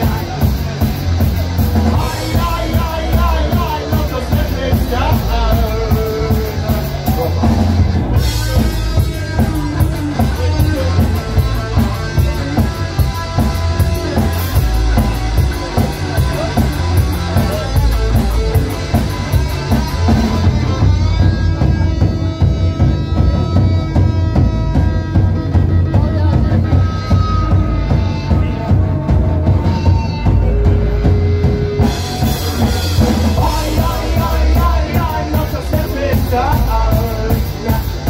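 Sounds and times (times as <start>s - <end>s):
punk rock band playing: 0.0s - 38.0s.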